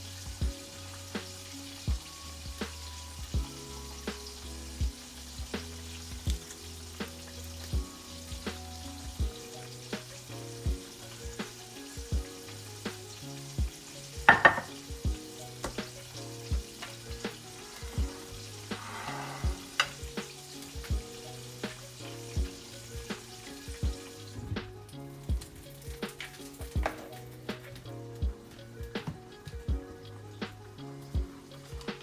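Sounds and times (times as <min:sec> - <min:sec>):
chicken sizzling in oil: 0:00.0 - 0:32.0
music with steady beat: 0:00.0 - 0:32.0.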